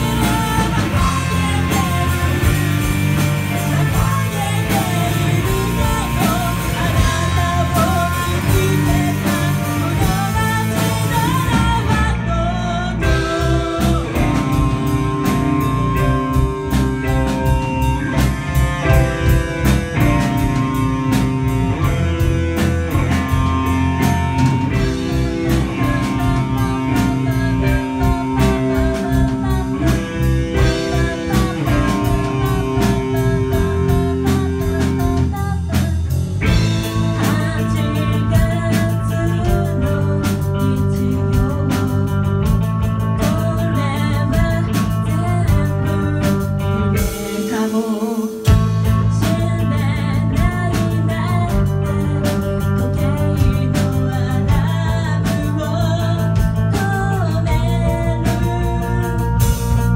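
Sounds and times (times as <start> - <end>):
rock band playing live: 0.0 - 59.9
steady drum beat: 0.0 - 59.9.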